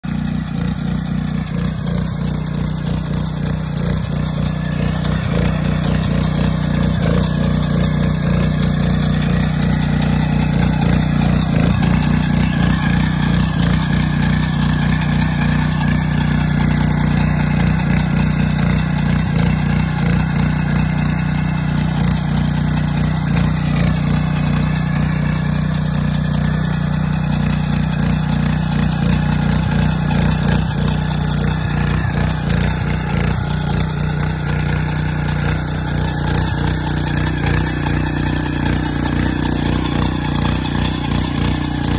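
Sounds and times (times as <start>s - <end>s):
power tiller engine running: 0.0s - 41.9s
tiller blades churning soil: 0.0s - 41.9s.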